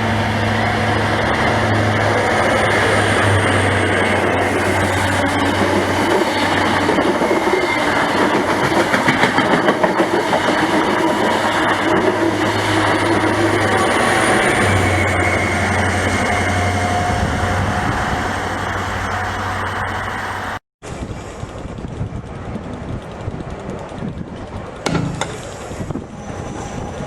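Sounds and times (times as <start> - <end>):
wheels clicking over rail joints: 0.0 - 19.6, 20.9 - 27.0
low locomotive engine hum: 0.0 - 27.0.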